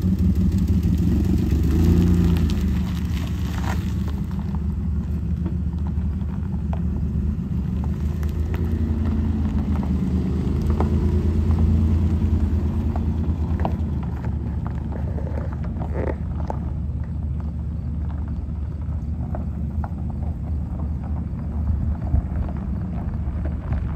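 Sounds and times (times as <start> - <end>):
car engine humming: 0.0 - 23.9
tyres on gravel: 0.0 - 23.9.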